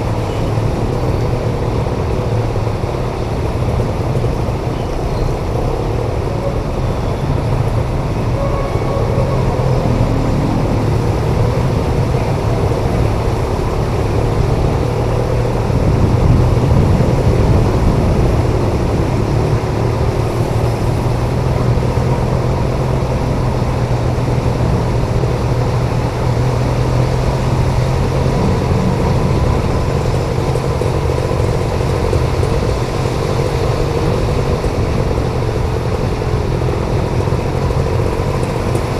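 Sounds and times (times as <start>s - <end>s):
tyres rushing through water: 0.0s - 38.9s.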